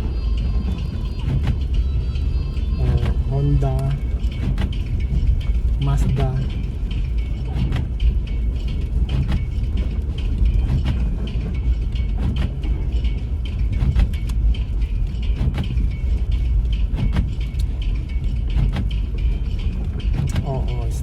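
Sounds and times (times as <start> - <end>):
low rumble of engine and tyres: 0.0 - 21.0
sharp ticks and clicks: 3.0 - 21.0.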